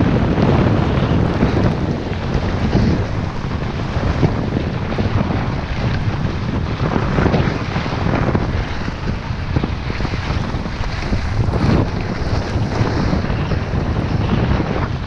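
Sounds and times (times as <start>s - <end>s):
skis scraping over snow: 0.0s - 15.0s
wind buffeting microphone: 0.0s - 15.0s.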